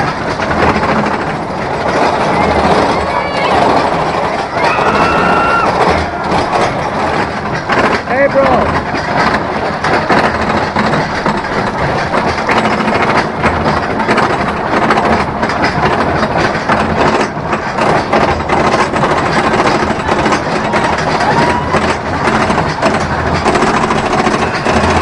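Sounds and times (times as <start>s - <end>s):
roller coaster lift chain clacking: 0.0s - 25.0s.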